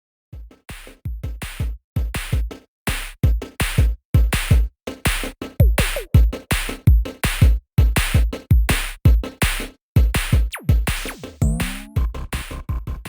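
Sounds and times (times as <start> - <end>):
deep kick drums: 0.4 - 13.0.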